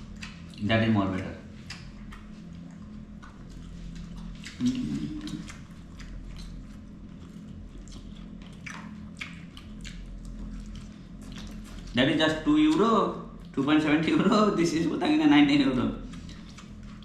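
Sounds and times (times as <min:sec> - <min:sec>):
chewing: 0:00.0 - 0:13.7, 0:16.0 - 0:17.0
steady low hum: 0:00.0 - 0:17.0.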